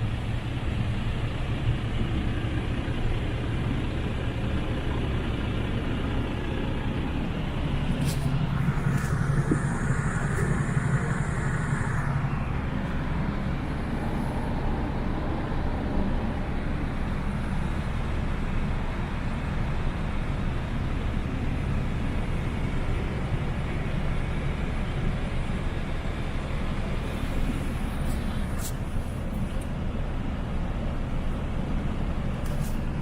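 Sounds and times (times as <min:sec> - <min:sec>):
heavy vehicle engine drone: 0:00.0 - 0:33.0.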